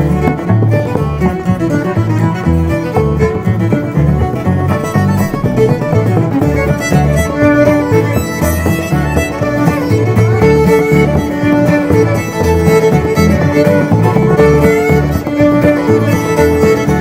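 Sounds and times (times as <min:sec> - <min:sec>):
fiddle-led country string music: 0:00.0 - 0:17.0.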